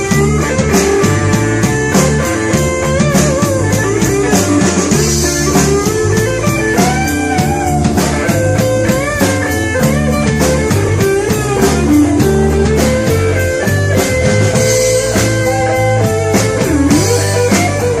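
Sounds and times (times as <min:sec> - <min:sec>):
blues-rock band playing: 0:00.0 - 0:18.0
lead guitar with bent notes: 0:00.0 - 0:18.0.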